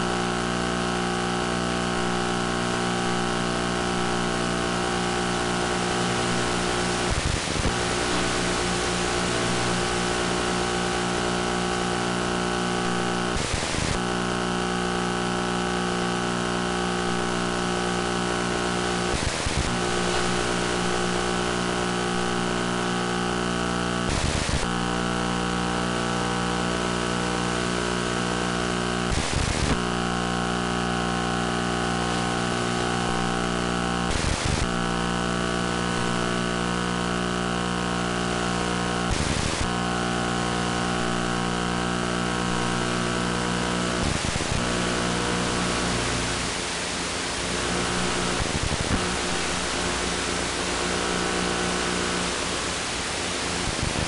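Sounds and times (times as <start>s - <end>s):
electric motor buzzing hum: 0.0s - 54.0s.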